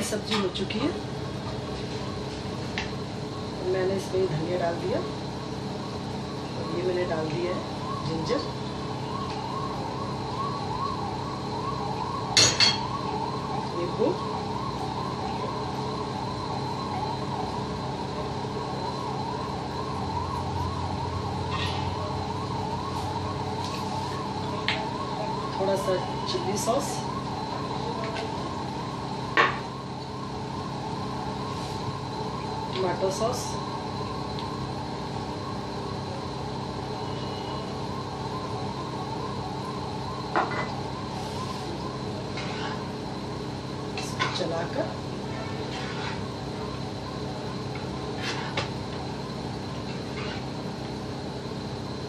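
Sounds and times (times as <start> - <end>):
warbling siren-like tone: 0.0 - 52.0.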